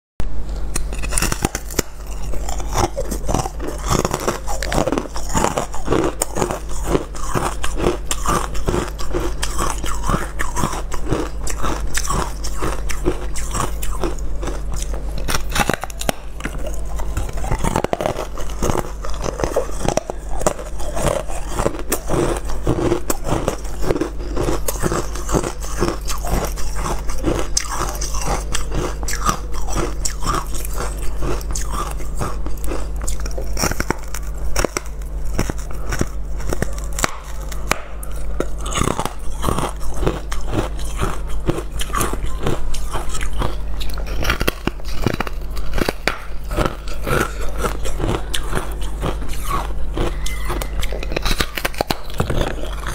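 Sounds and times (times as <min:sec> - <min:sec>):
steady low hum: 0:00.2 - 0:52.9
ice crunching while chewed: 0:00.5 - 0:52.9.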